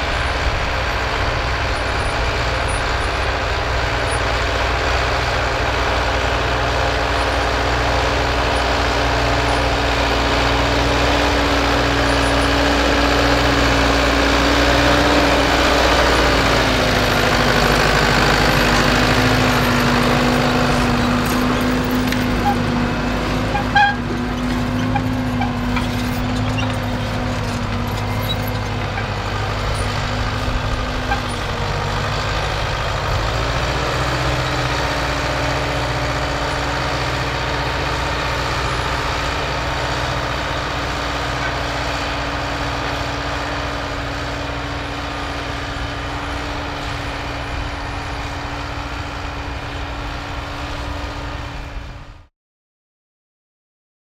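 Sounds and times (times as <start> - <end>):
tractor diesel engine under load: 0.0 - 52.3.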